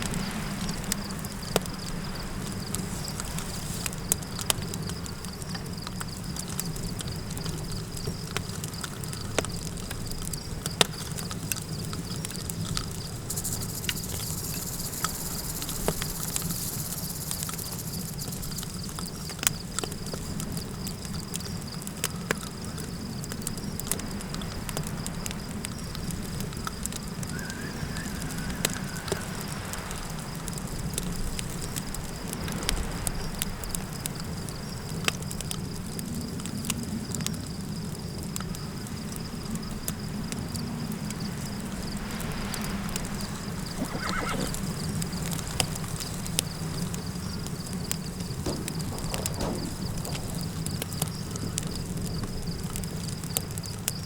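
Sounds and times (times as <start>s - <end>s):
high insect trill: 0.0s - 23.8s, 24.5s - 34.9s, 37.0s - 54.0s
campfire crackling and popping: 0.0s - 54.0s.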